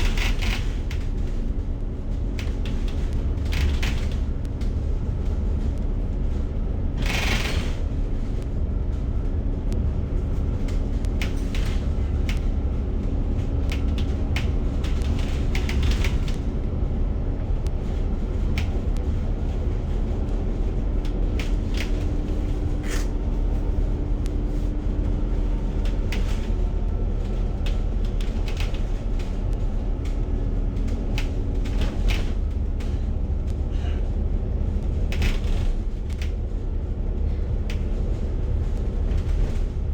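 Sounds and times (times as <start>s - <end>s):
bus body rattling: 0.0s - 39.9s
bus engine and road rumble: 0.0s - 39.9s.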